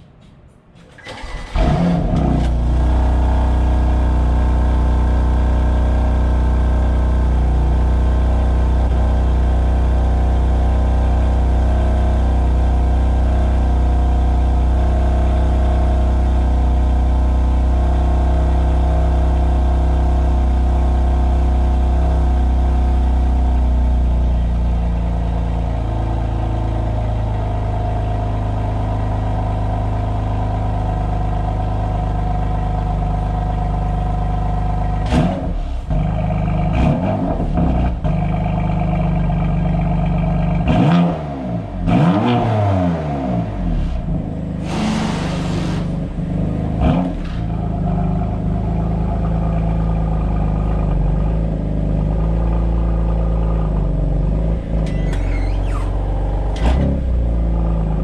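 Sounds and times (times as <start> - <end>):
car engine starting and idling: 0.0 - 58.0.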